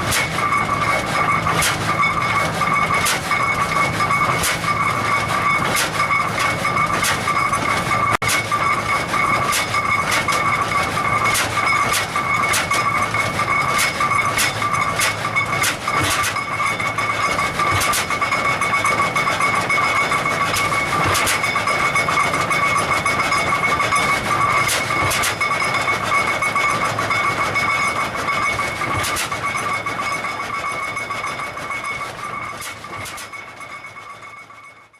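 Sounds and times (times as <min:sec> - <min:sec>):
two-cylinder engine running: 0:00.0 - 0:32.3.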